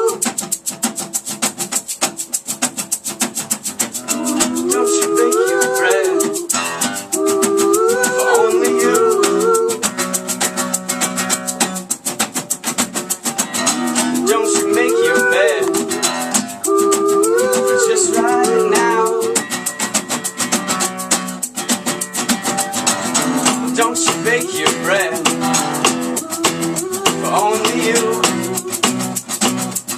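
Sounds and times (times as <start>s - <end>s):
plucked guitar: 0.0s - 29.9s
shaker rhythm: 0.0s - 29.9s
wavering melody: 3.9s - 12.1s, 13.0s - 29.2s.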